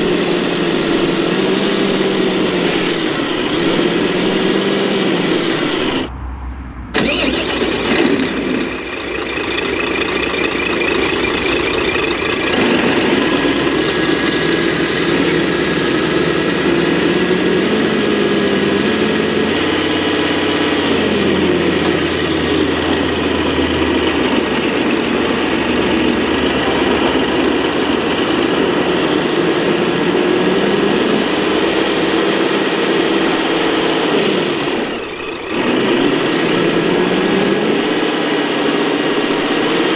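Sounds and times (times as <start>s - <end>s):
toy truck engine drone: 0.0s - 6.2s, 6.9s - 39.9s
steady high whine: 0.0s - 39.9s.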